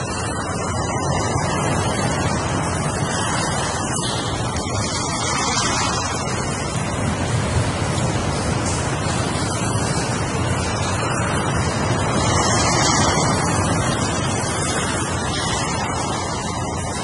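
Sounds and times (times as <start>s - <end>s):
ocean waves: 0.0s - 17.0s.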